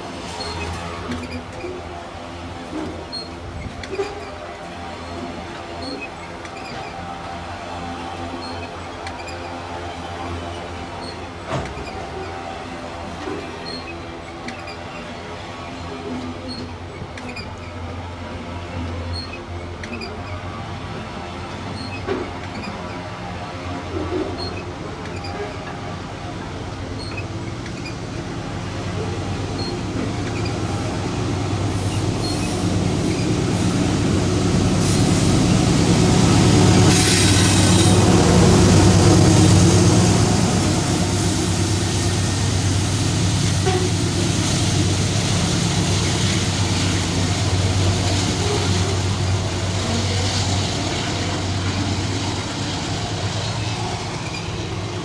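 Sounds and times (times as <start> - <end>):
locomotive engines droning: 0.0 - 55.0
train wagons rumbling: 0.0 - 55.0.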